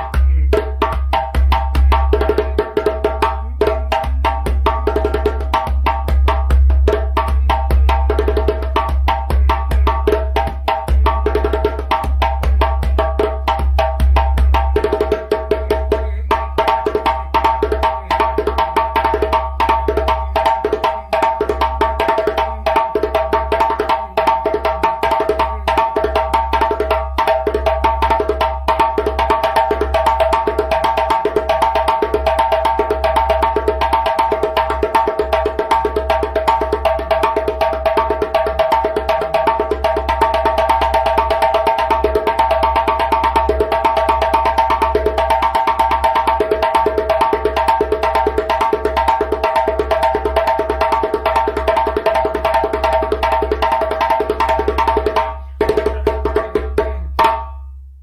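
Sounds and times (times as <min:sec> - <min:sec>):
hand drum rhythm: 0:00.0 - 0:57.7.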